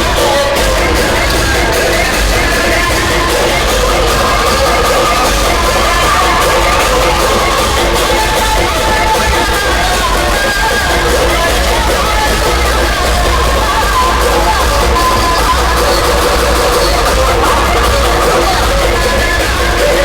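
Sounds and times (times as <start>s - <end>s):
loud music with heavy bass: 0.0s - 20.0s.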